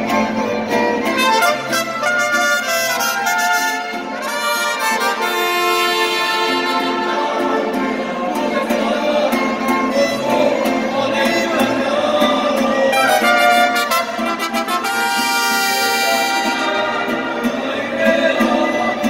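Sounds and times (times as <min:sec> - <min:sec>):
mariachi band playing: 0:00.0 - 0:19.0.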